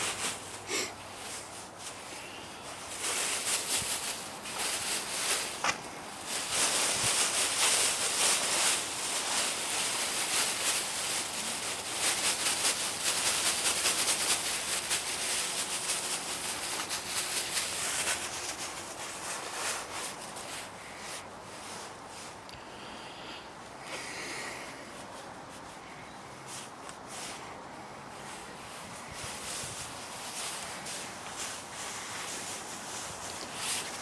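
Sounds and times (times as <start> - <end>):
dry rustling and scraping: 0.0 - 22.5, 23.8 - 34.0.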